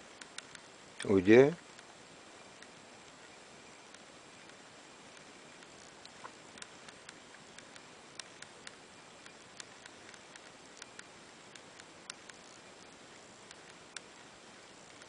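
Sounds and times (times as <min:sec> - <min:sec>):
faint steady hiss: 0:00.0 - 0:15.0
small clicks and ticks: 0:00.0 - 0:15.0.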